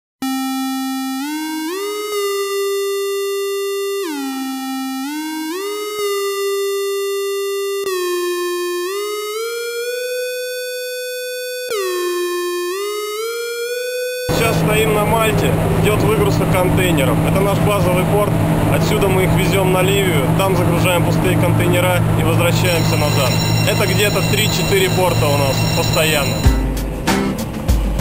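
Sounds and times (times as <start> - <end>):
synthesizer melody: 0.2 - 27.2.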